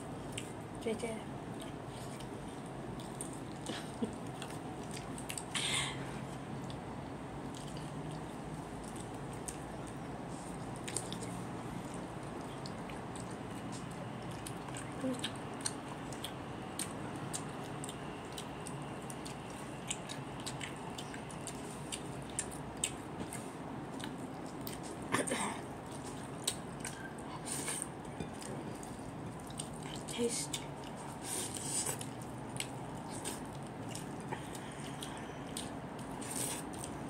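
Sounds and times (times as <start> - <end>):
chewing: 0.2 - 0.6, 1.4 - 5.5, 6.3 - 37.0.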